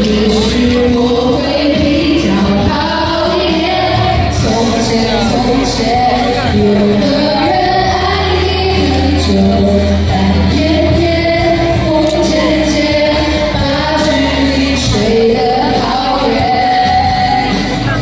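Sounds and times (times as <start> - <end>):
song with singing and bass: 0.0 - 18.0.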